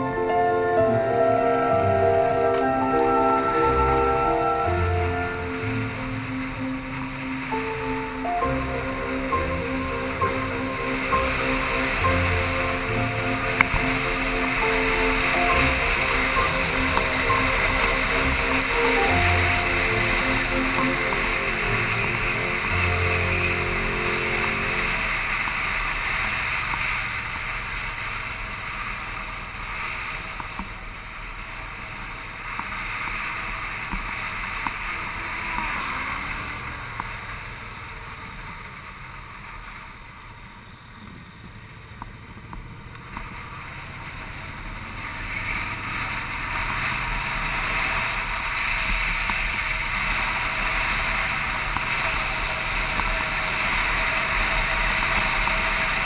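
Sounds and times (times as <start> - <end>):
wind and road rush: 0.0 - 56.0.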